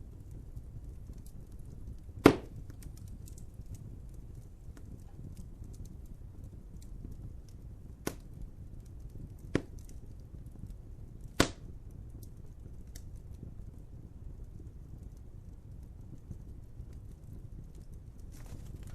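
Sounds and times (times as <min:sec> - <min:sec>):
sharp pops of burning wood: 0:00.0 - 0:13.8, 0:15.8 - 0:18.9
wood fire crackling: 0:00.0 - 0:18.9.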